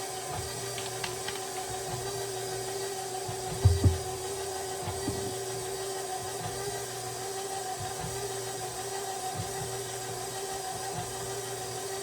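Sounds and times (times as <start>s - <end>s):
electric kitchen mixer running: 0.0s - 12.0s.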